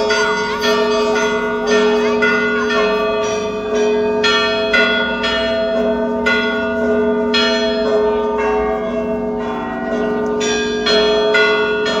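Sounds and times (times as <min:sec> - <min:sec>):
bells ringing: 0:00.0 - 0:12.0
hum of lower bells: 0:00.0 - 0:12.0.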